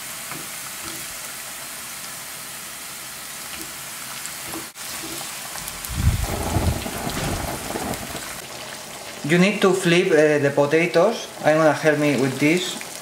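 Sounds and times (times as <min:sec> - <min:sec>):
potatoes sizzling in oil: 0:00.0 - 0:13.0.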